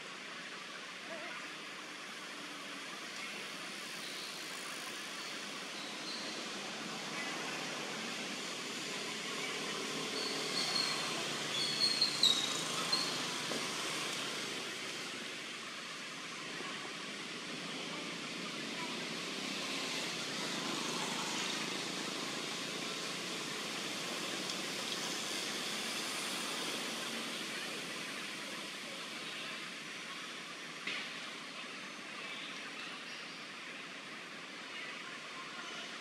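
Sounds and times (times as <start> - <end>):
outdoor background noise: 0.0 - 36.0.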